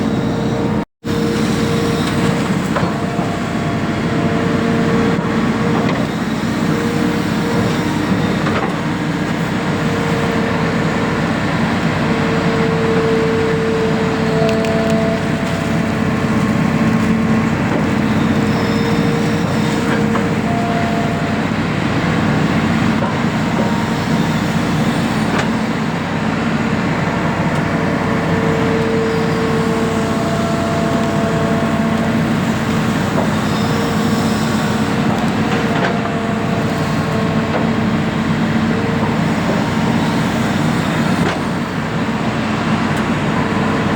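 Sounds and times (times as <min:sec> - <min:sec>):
excavator engine droning: 0:00.0 - 0:43.9.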